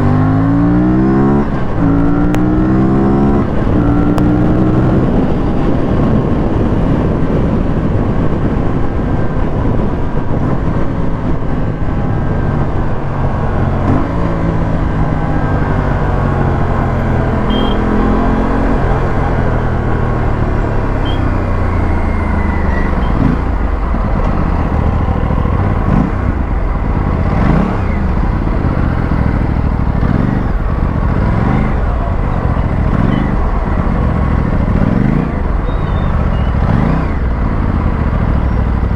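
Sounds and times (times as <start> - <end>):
motorcycle engine revving: 0.0 - 38.9
wind and road rush: 0.0 - 38.9.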